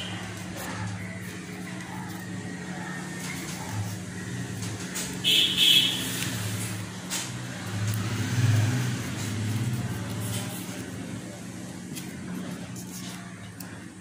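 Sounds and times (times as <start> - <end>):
paper rustling and scraping: 0.0 - 14.0.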